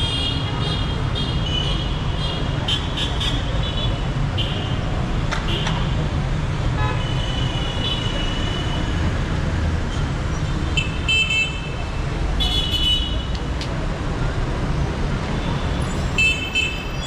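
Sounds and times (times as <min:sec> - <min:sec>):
dense city traffic: 0:00.0 - 0:17.0.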